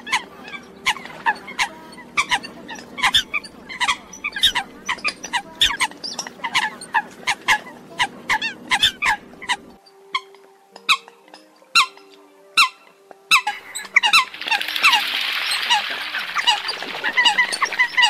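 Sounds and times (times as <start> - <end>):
birds calling sharply: 0.0 - 18.0
low steady hum: 0.0 - 18.0.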